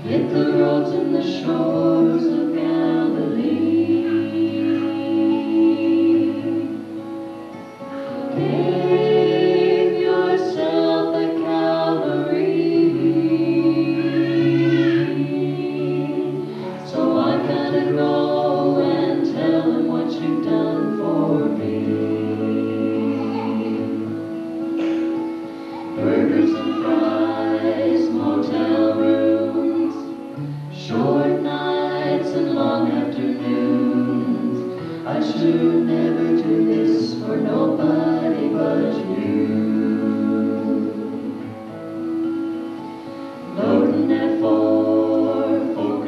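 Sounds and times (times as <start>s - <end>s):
vocal quartet singing in harmony: 0.0s - 46.0s.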